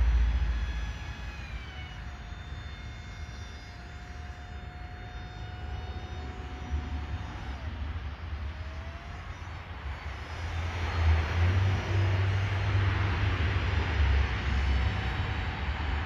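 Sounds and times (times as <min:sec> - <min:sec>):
low irregular rumble: 0:00.0 - 0:16.0
propeller motor running overhead: 0:00.0 - 0:16.0.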